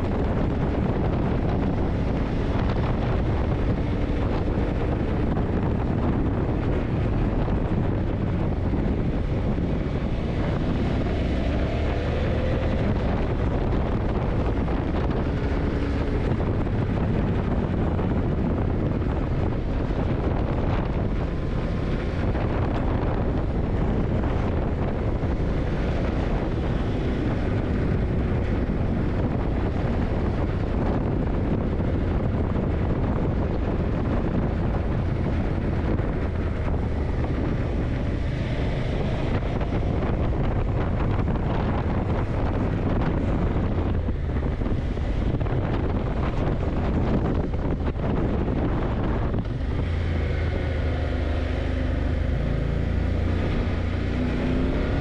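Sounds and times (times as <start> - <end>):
motorcycle engine running: 0.0 - 54.0
wind buffeting microphone: 0.0 - 55.0.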